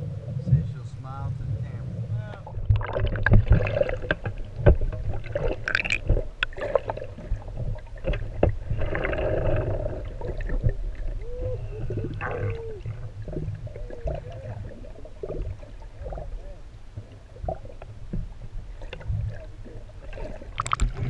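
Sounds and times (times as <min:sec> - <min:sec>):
low rumble: 0:00.0 - 0:20.0
muffled water sloshing and gurgling: 0:00.0 - 0:21.0.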